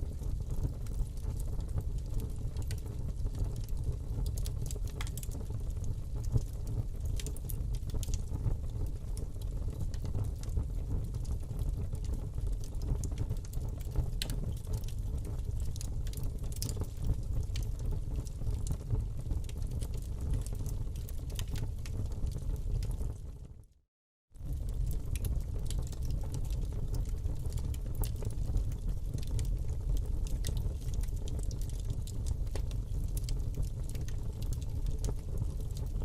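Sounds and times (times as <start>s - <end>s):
wood fire burning in fireplace: 0.0s - 23.8s, 24.4s - 36.0s.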